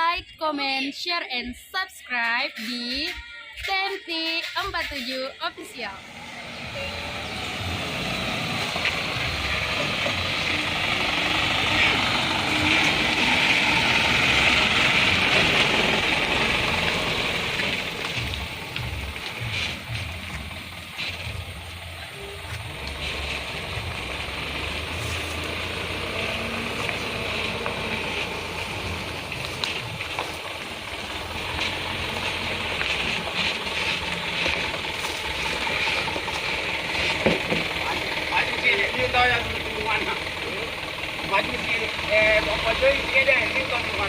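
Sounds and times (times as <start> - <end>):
diesel truck engine running: 0.0 - 44.0
constant hiss: 6.2 - 44.0.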